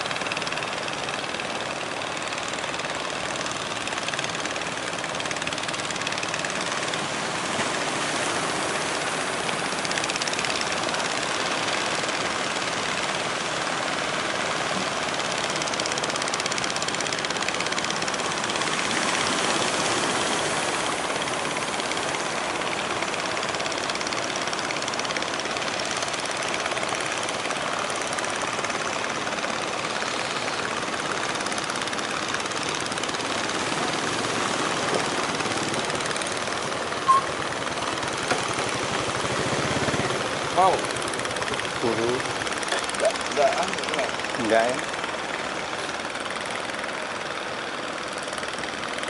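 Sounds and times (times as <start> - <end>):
boat engines pulsing: 0.0 - 49.0.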